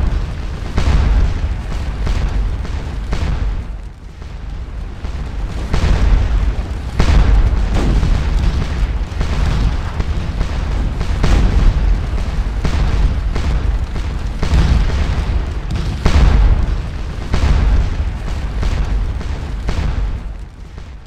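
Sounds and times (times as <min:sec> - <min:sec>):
cannon booms: 0:00.0 - 0:21.0
continuous low rumble: 0:00.0 - 0:21.0
musket fire: 0:00.0 - 0:21.0.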